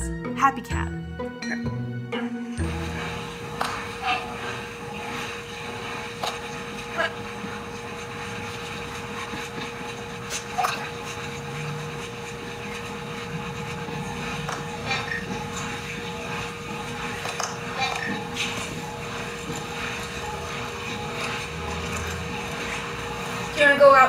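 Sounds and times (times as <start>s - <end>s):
steady background hum: 0.1s - 24.0s.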